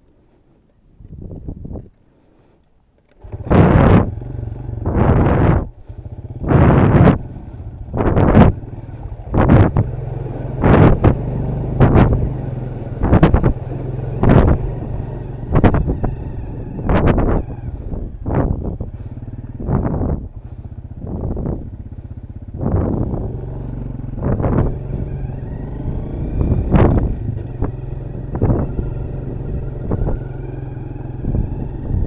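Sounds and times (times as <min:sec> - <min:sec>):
dirt bike engine running: 0:03.1 - 0:32.0.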